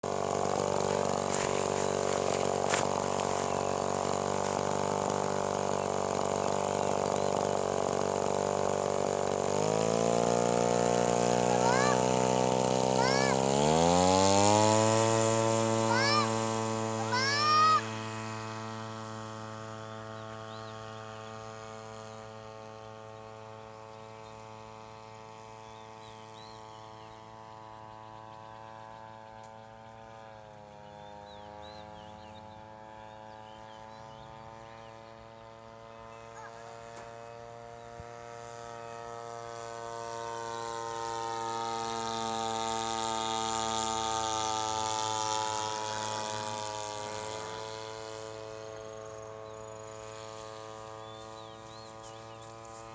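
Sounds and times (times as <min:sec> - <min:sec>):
model airplane engine droning: 0:00.0 - 0:52.9.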